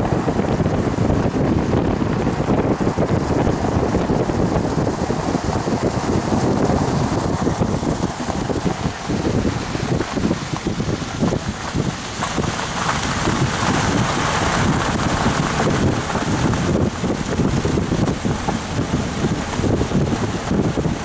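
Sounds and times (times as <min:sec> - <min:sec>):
vehicle rumbling on gravel road: 0:00.0 - 0:21.0
wind buffeting microphone: 0:00.0 - 0:21.0.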